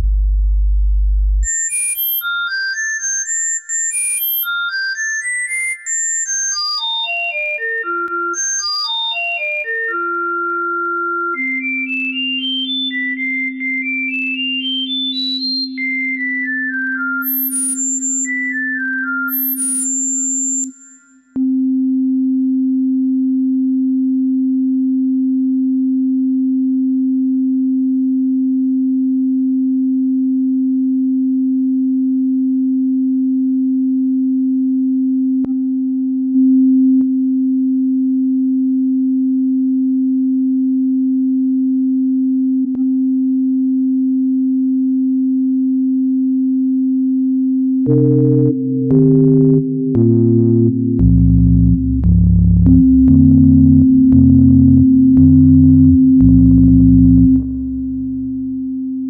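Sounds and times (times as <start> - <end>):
low steady sine tone: 0.0 - 2.3, 8.9 - 59.0.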